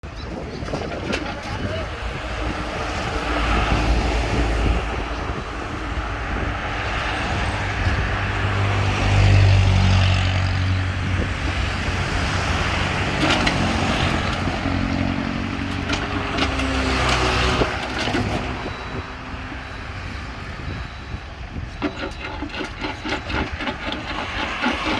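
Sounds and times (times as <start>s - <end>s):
diesel engine running under load: 0.0s - 24.9s.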